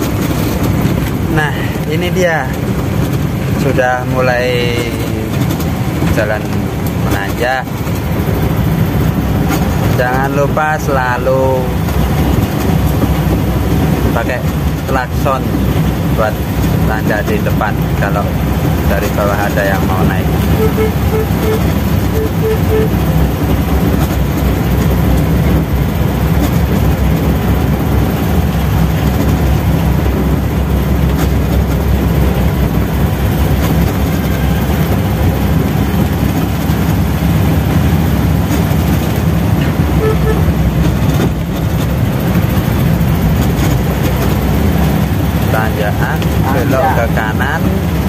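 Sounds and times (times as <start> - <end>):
car engine running under load: 0.0 - 48.0.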